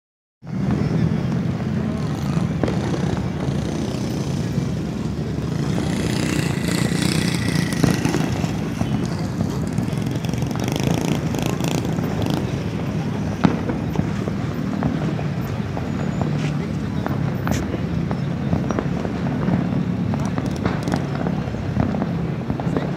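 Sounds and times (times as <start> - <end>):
firework bang: 0.5 - 22.9
fireworks crackling and popping: 0.5 - 22.9.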